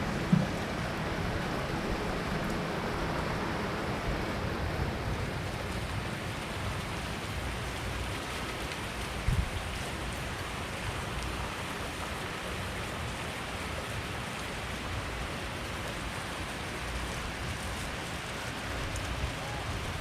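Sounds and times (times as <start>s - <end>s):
heavy rain on surfaces: 0.0s - 20.0s.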